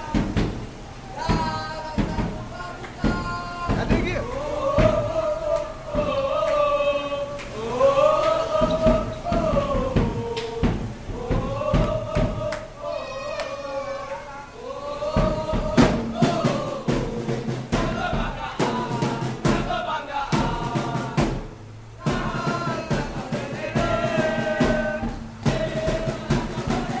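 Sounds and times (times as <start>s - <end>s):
marching bass drum strikes: 0.0s - 6.5s, 7.9s - 12.6s, 15.0s - 27.0s
crowd chanting in unison: 1.1s - 21.4s, 22.0s - 27.0s.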